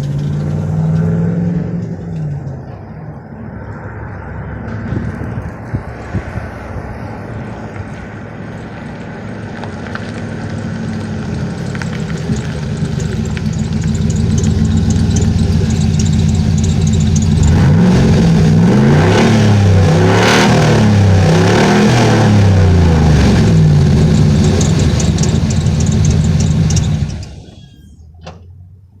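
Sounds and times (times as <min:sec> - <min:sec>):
engine revving through open exhaust: 0:00.0 - 0:02.8, 0:04.1 - 0:28.1.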